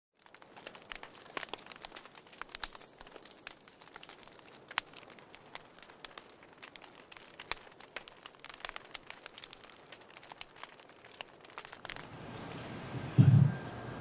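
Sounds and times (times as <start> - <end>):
fire crackling and popping: 0.1 - 14.0.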